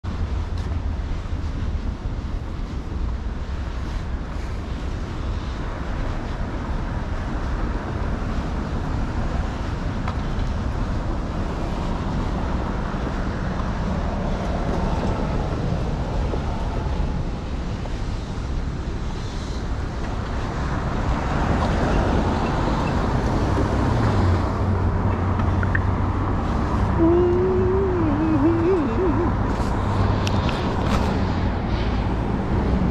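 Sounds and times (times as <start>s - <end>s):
low engine hum: 0.0s - 32.9s
low rumble of cars: 0.0s - 32.9s.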